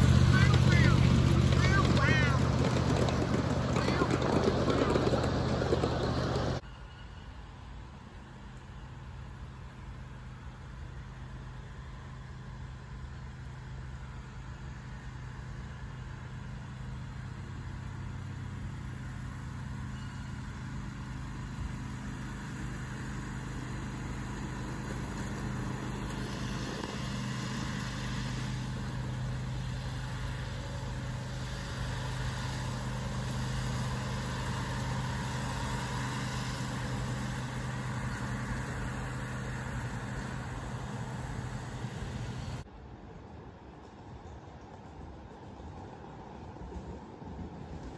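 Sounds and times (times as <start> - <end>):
miniature locomotive engine humming: 0.0 - 47.9.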